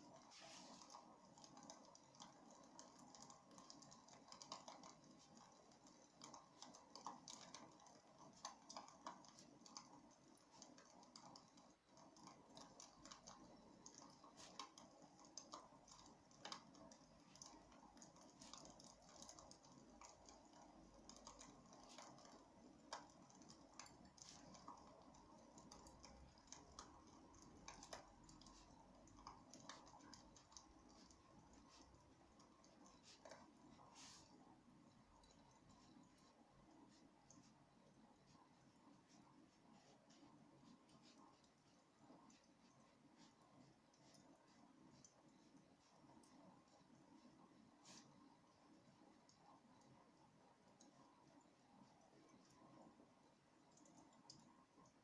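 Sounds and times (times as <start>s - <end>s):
low steady hiss: 0.0s - 55.0s.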